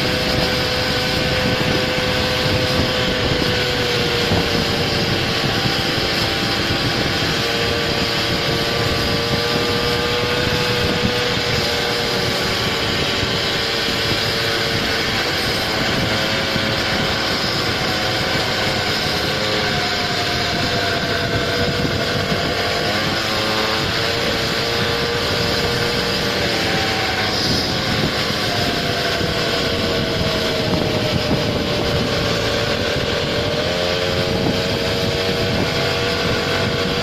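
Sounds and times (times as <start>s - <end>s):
constant rushing noise: 0.0s - 37.0s
scooter engine running: 0.0s - 37.0s.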